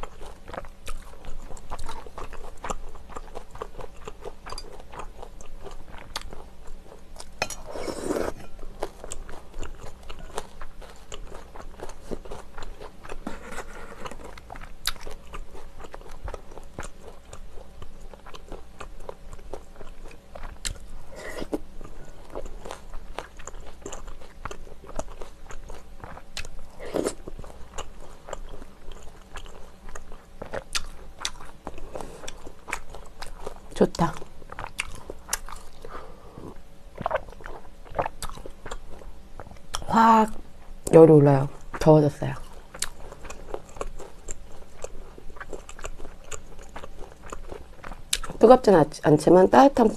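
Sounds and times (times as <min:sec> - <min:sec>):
wet chewing and crunchy bites: 0:00.0 - 0:48.5.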